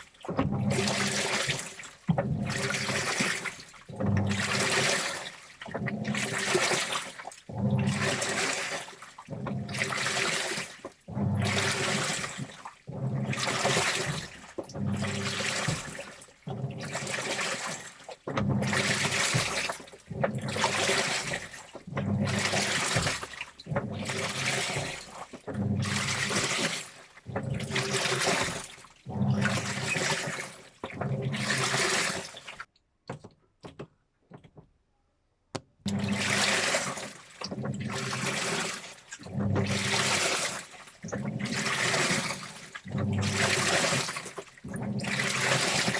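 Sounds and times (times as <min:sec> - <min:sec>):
washing machine drum sloshing: 0:00.0 - 0:32.7, 0:35.9 - 0:45.9
washing machine motor hum: 0:00.0 - 0:32.7, 0:35.9 - 0:45.9.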